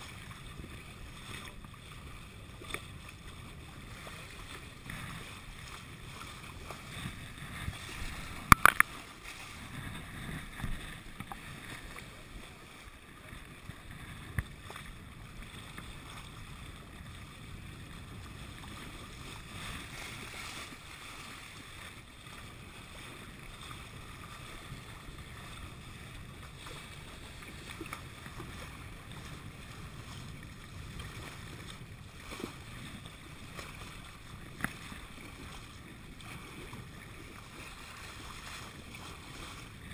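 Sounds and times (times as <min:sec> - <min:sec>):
water along a boat hull: 0:00.0 - 0:39.9.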